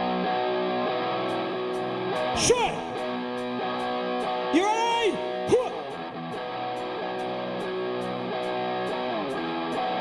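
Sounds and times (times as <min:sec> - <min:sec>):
electric guitar chords: 0:00.0 - 0:10.0.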